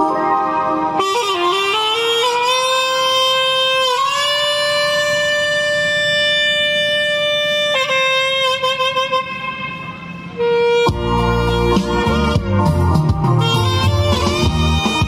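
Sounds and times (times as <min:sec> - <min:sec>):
saxophone slow melody: 0:00.0 - 0:15.0.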